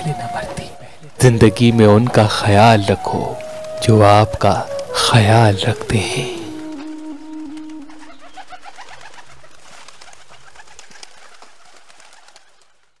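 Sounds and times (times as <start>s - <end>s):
birds calling in quick notes: 0.0s - 12.8s.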